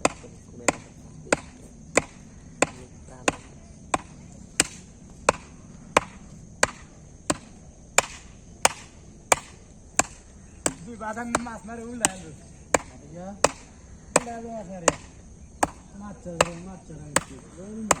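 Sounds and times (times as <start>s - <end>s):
sharp knocks on wood: 0.0s - 18.0s.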